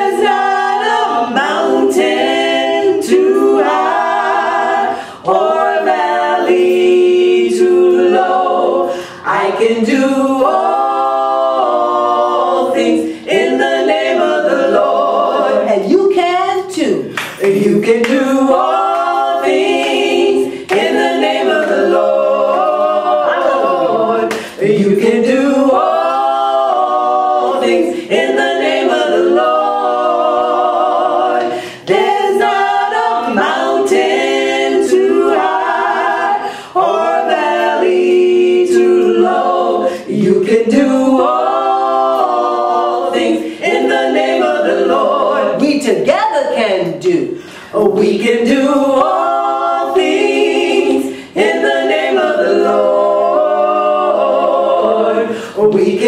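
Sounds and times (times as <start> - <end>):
women singing in harmony: 0.0 - 56.0.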